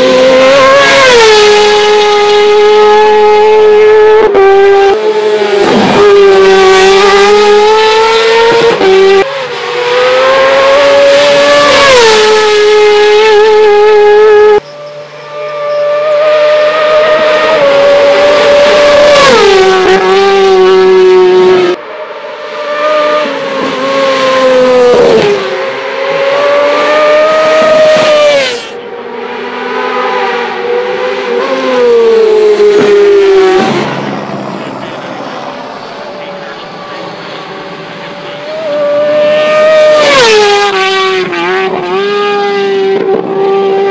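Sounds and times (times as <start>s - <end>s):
motorcycle engine at high revs: 0.0s - 21.8s, 22.6s - 33.8s, 38.1s - 43.9s.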